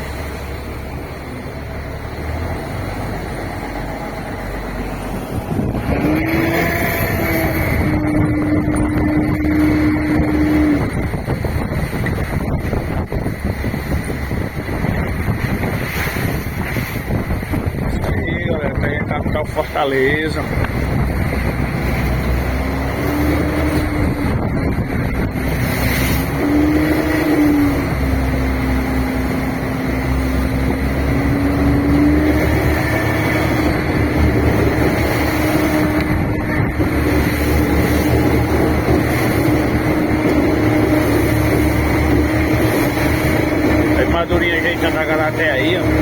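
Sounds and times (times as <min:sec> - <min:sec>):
boat engine running: 0:00.0 - 0:46.0
steady rushing noise: 0:00.0 - 0:46.0.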